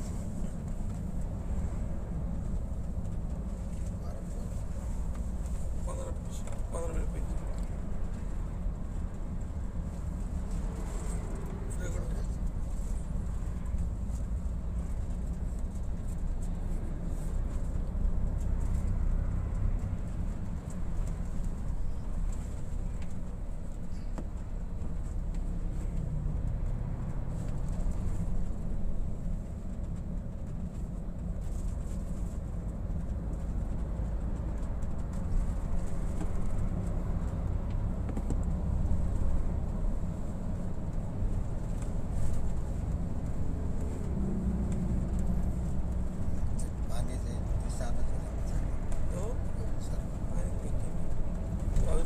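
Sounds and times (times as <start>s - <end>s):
coach engine and tyres rumbling: 0.0s - 52.0s.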